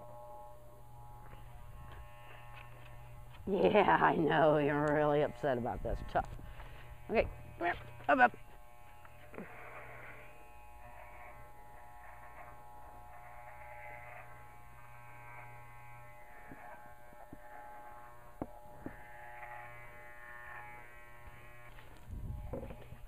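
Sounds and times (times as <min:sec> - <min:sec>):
electric clippers buzzing: 0:00.0 - 0:23.0.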